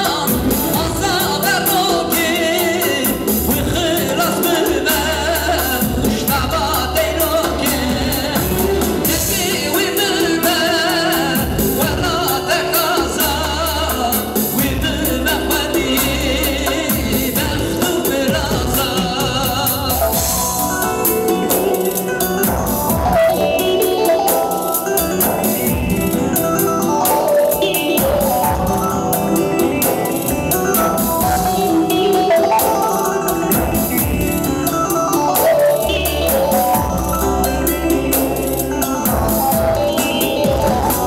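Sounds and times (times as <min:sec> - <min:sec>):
electronic keyboard playing: 0:00.0 - 0:41.0
man singing with vibrato: 0:00.0 - 0:41.0.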